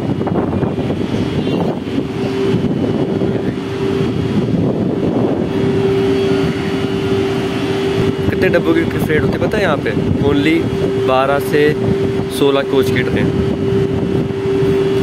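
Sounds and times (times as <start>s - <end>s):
locomotive cooling blowers whirring: 0.0s - 15.0s.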